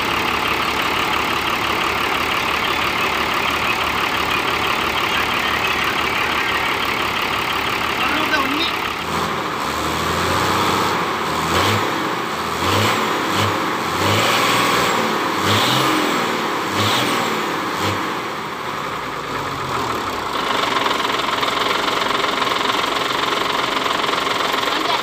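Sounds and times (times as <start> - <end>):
diesel truck engine surging: 0.0 - 25.0.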